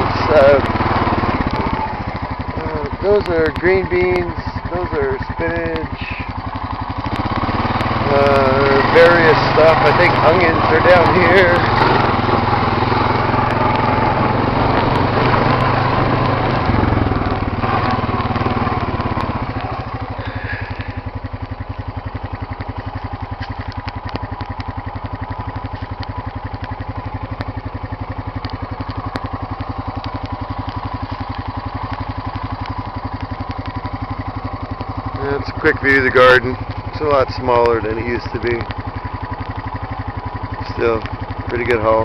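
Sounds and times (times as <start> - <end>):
quad engine running: 0.0 - 42.0.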